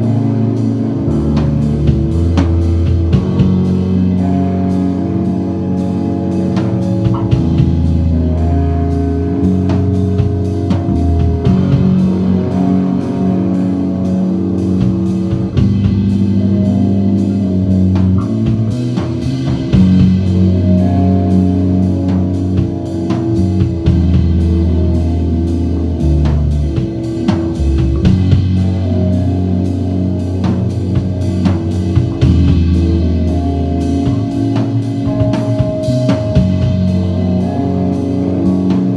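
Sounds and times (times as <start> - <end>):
instrumental rock band playing: 0.0 - 38.9
long held low notes: 0.0 - 38.9.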